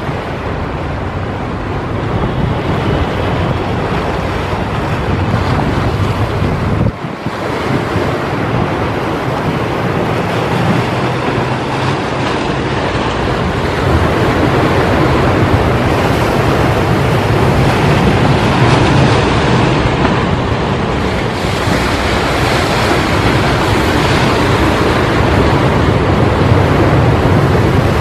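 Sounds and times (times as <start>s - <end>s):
sea waves washing ashore: 0.0s - 28.0s
wind on microphone: 0.0s - 28.0s.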